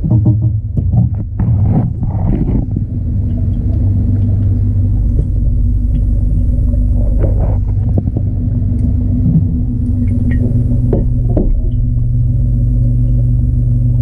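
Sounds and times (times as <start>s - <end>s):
aquarium pump rumble: 0.0s - 14.0s.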